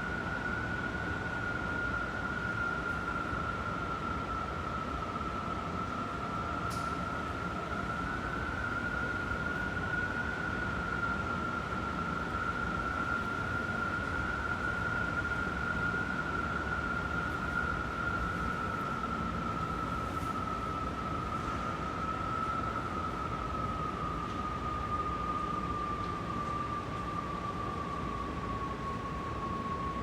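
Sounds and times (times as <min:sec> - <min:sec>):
high-pitched wind howl: 0:00.0 - 0:30.0.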